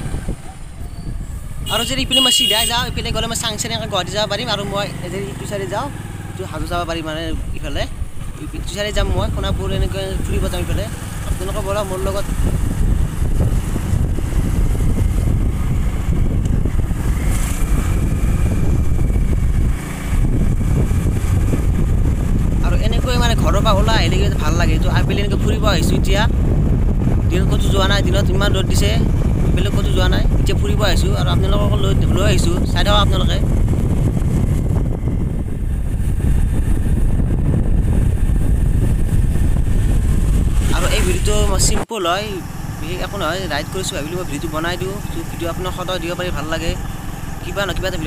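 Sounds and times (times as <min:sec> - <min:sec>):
wind rumbling on microphone: 0:00.0 - 0:04.3, 0:05.3 - 0:48.0
motorcycle engine running: 0:00.0 - 0:48.0
road noise: 0:00.0 - 0:48.0.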